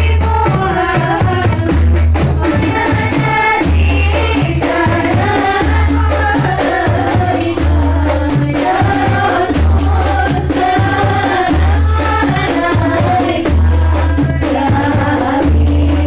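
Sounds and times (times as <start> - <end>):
deep booming drum beats: 0.0 - 16.0
women singing in unison: 0.0 - 16.0.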